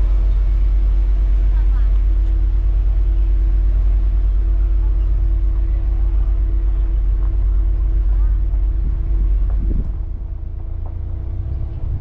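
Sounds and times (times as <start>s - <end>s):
car driving low rumble: 0.0s - 12.0s
constant drone tone: 0.0s - 12.0s.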